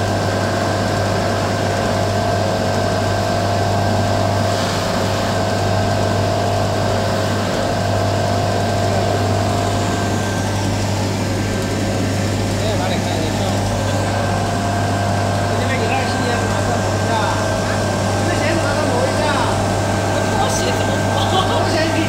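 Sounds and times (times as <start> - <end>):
polishing machine motor humming: 0.3 - 22.0.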